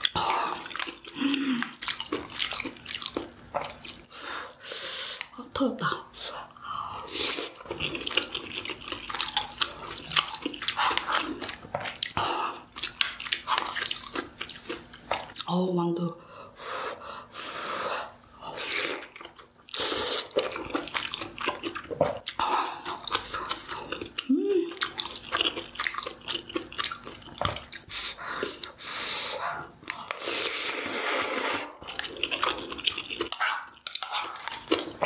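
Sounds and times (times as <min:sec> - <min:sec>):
wet chewing mouth sounds: 0:00.0 - 0:04.1, 0:06.4 - 0:15.5, 0:18.2 - 0:28.8, 0:29.4 - 0:35.0.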